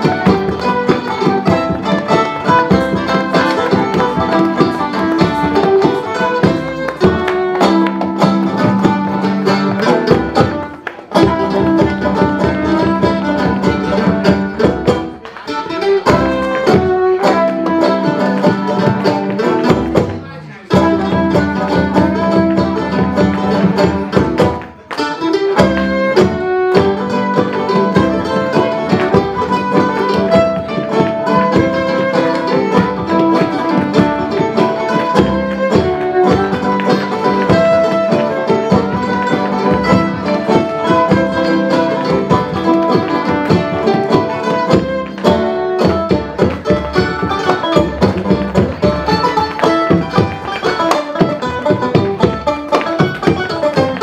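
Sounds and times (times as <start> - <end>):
live folk band playing: 0.0 - 54.0.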